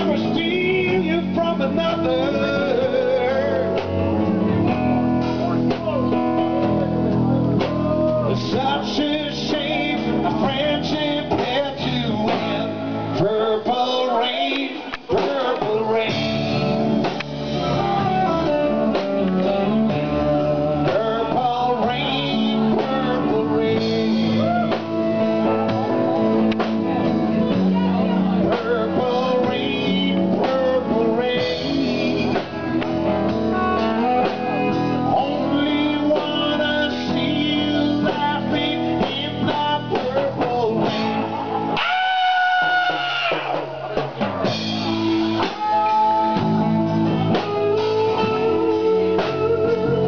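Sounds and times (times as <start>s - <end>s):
drums: 0.0s - 50.0s
guitar playing: 0.0s - 50.0s
person singing: 0.0s - 50.0s.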